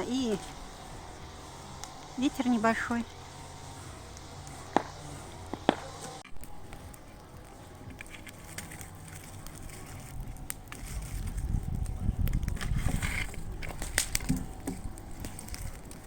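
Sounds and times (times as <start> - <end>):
wood bonfire crackling: 0.0 - 16.0.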